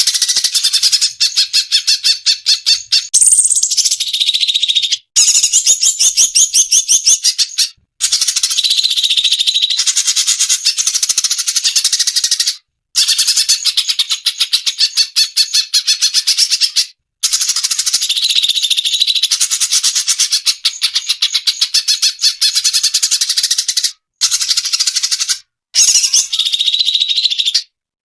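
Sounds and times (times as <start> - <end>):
bird song rapid chattering notes: 0.0 - 27.7.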